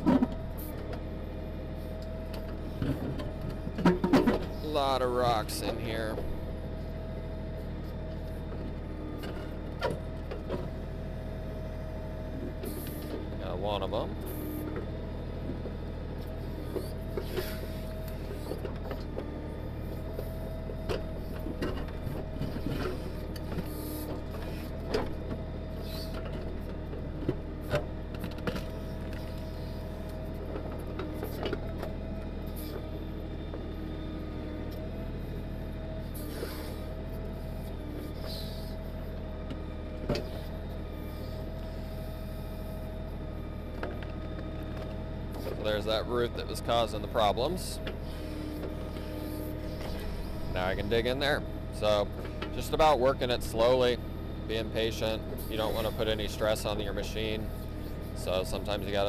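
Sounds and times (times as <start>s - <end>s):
hydraulic whine: 0.0s - 59.0s
tractor diesel engine running: 0.0s - 59.0s.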